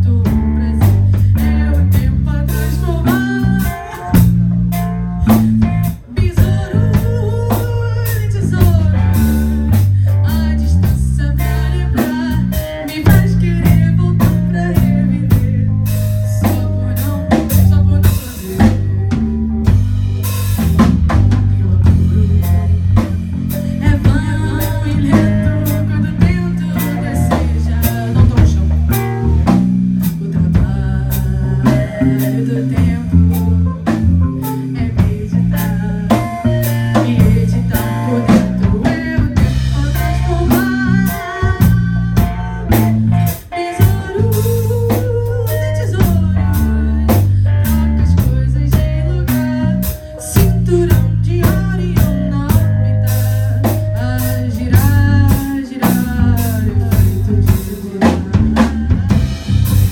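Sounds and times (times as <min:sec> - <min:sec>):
drum kit with snare and cymbals: 0:00.0 - 0:59.9
electric bass guitar: 0:00.0 - 0:59.9
electric guitars: 0:00.0 - 0:59.9.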